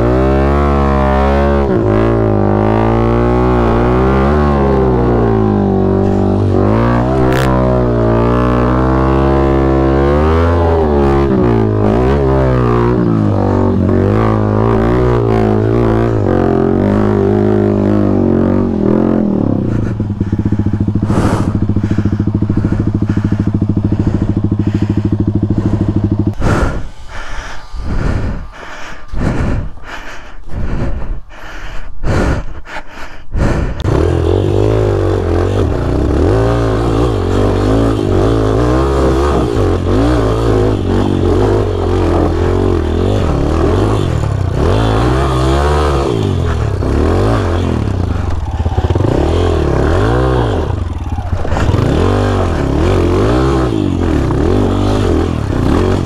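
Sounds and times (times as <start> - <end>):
dirt bike engine revving: 0.0 - 31.2, 33.4 - 56.0.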